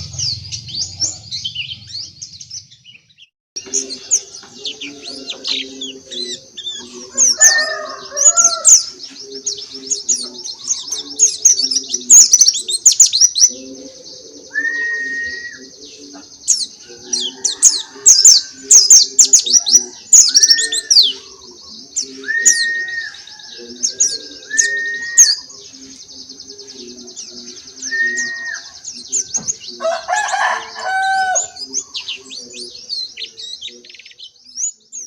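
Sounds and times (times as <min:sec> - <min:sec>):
low pulsing bird call: 0:00.0 - 0:35.0
songbirds twittering: 0:00.0 - 0:35.0
whistled bird notes: 0:00.0 - 0:35.0.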